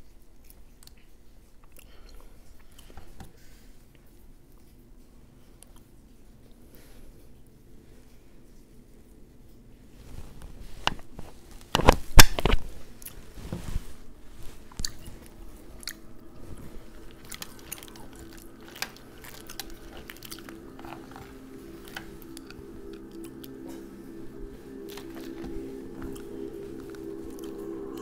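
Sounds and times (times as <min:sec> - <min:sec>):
chewing: 0:00.0 - 0:04.8, 0:05.4 - 0:09.6, 0:14.4 - 0:28.0.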